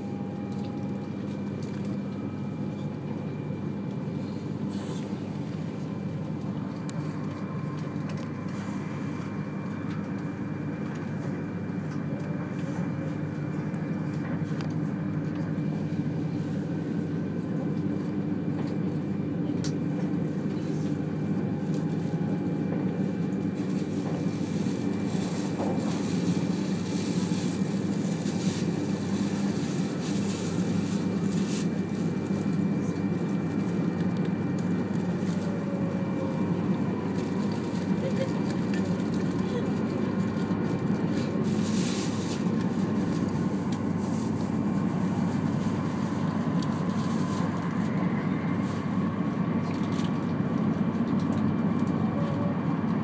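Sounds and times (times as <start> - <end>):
train rumbling inside passenger car: 0.0 - 53.0.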